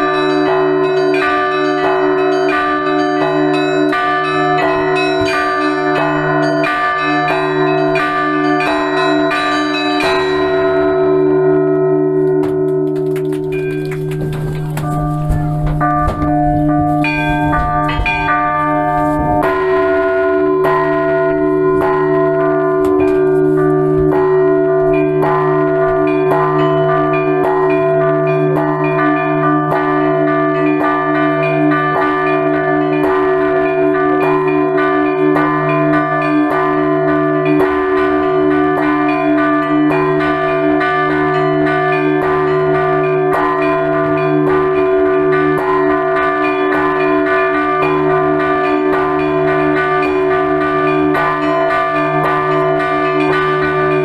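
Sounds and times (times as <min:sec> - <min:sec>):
large bells humming: 0:00.0 - 0:54.0
small church bells pealing: 0:00.0 - 0:54.0.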